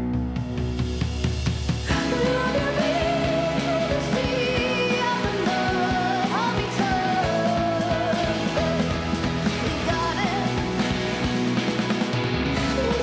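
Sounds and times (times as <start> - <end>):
rock song with singing: 1.8 - 13.0.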